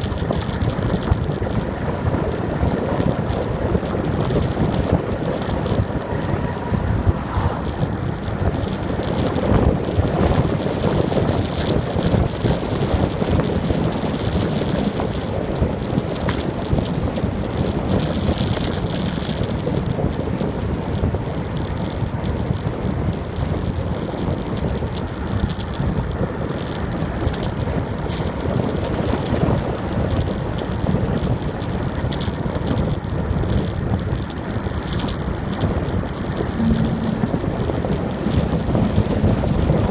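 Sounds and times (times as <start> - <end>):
bike rattling: 0.0 - 39.9
wind buffeting microphone: 0.0 - 39.9.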